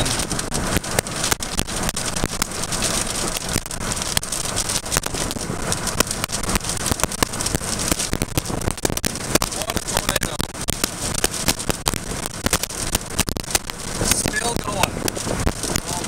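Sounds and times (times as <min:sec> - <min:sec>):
heavy rain on a vehicle: 0:00.0 - 0:16.0.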